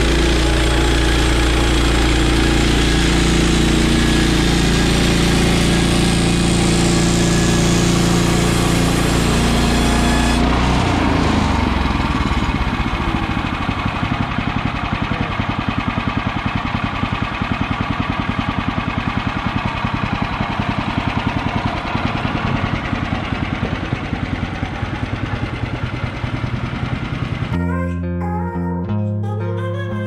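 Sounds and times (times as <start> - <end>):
sawmill engine idling: 0.0 - 27.6.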